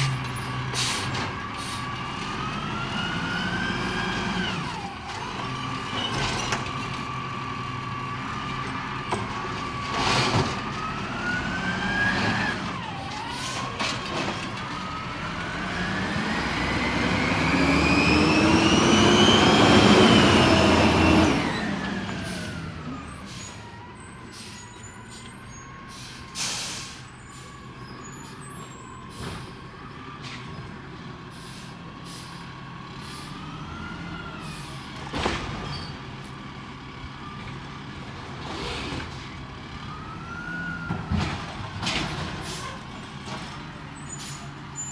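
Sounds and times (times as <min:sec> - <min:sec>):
garbage truck engine revving: 0:00.0 - 0:44.9.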